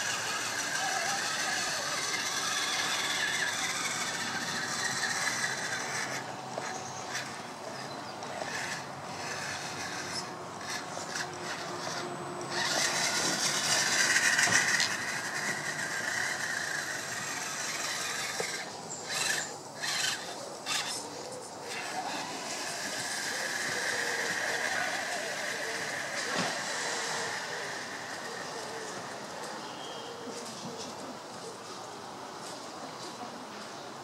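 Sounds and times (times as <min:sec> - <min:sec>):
electric motors whining: 0:00.0 - 0:31.6.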